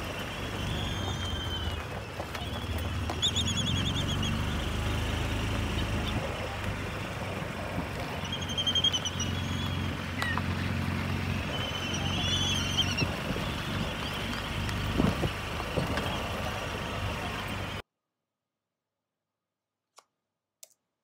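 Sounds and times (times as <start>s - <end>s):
low motor hum: 0.0s - 17.8s.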